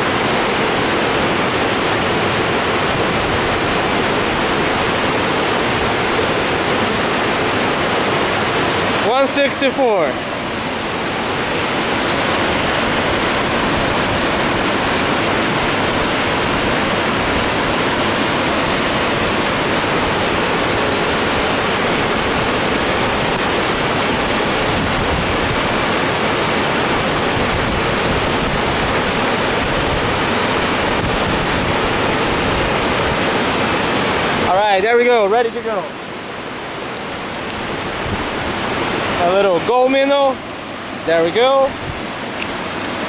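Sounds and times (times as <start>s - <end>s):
creek rushing whitewater: 0.0s - 43.0s.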